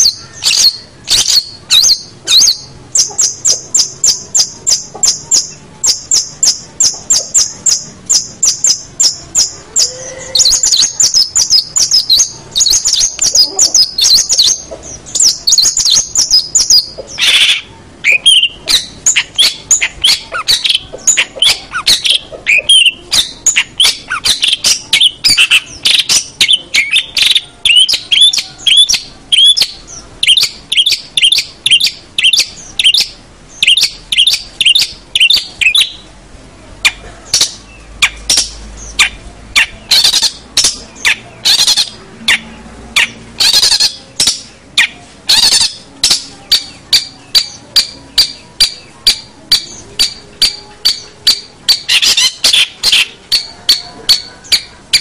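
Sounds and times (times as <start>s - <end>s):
bird singing rapid high notes: 0.0s - 36.1s, 36.8s - 55.0s
harsh bird call: 0.0s - 36.1s, 36.8s - 55.0s.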